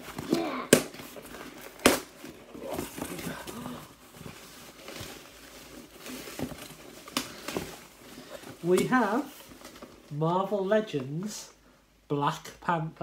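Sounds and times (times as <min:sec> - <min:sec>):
cardboard and packing rustling: 0:00.0 - 0:11.3.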